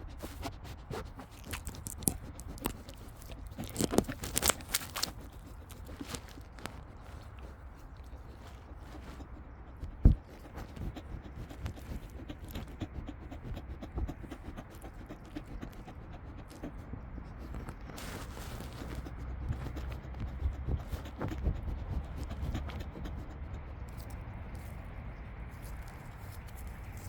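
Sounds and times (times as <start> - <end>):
lamb sniffing: 0.0 - 27.0.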